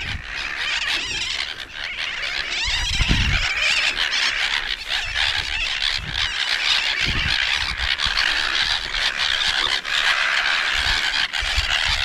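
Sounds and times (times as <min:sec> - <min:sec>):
seabirds crying harshly: 0:00.0 - 0:12.0.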